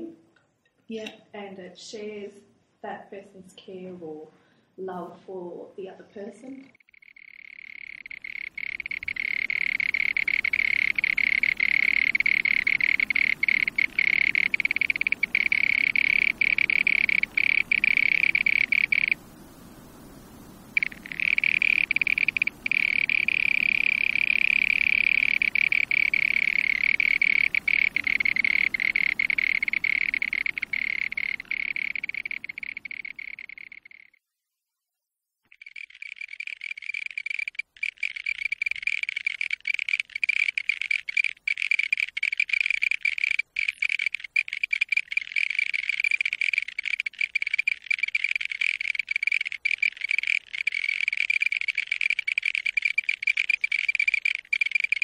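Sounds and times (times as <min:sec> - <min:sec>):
frogs calling: 0:06.7 - 0:34.2, 0:35.5 - 0:55.0.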